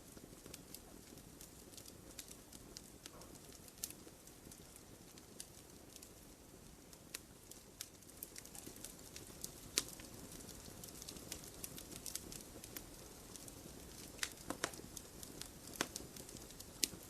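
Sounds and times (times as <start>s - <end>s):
burning wood popping: 0.0s - 17.0s
rush of flame: 0.0s - 17.0s.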